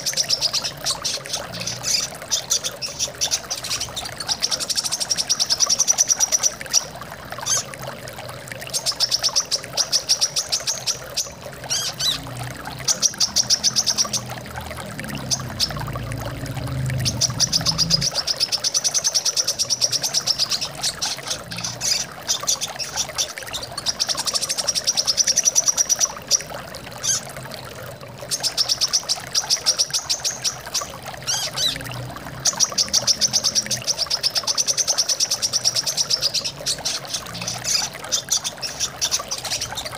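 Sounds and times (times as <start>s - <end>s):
bird singing rapid trills: 0.0s - 7.6s, 8.7s - 27.2s, 28.3s - 39.9s
running water: 0.0s - 39.9s.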